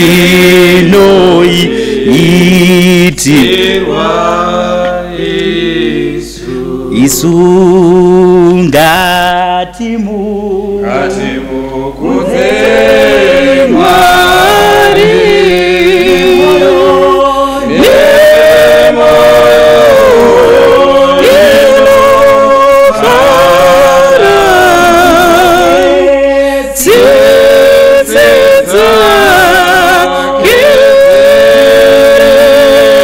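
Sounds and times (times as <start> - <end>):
group singing a hymn in harmony: 0.0 - 33.0.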